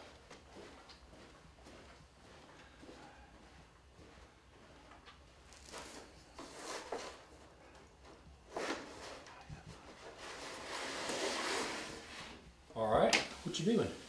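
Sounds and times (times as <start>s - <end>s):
rustling and scraping: 0.0s - 12.6s.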